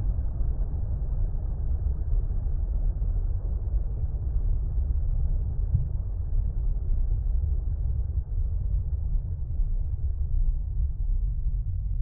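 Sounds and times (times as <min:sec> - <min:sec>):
deep muffled water rumble: 0:00.0 - 0:12.0.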